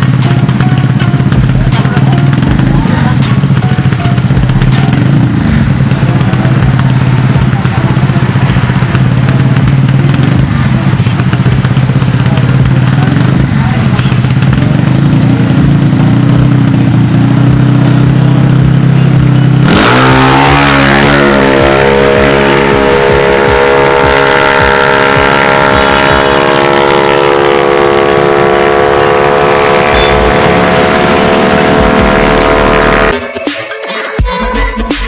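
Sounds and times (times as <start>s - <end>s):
motorcycle engine revving: 0.0s - 33.4s.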